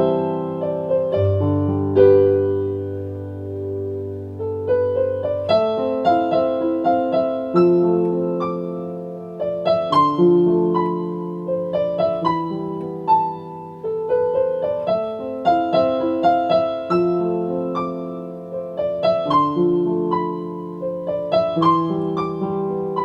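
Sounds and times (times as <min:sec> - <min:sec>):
slow solo piano: 0:00.0 - 0:23.0.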